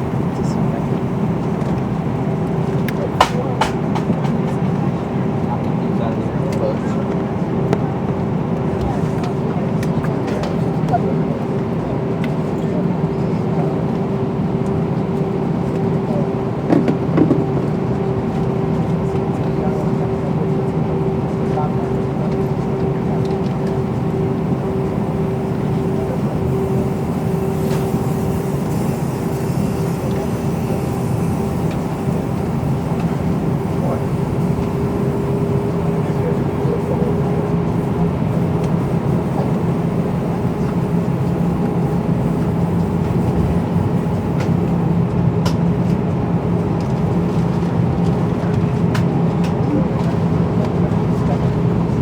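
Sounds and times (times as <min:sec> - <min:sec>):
jet engines running at low thrust: 0:00.0 - 0:52.0.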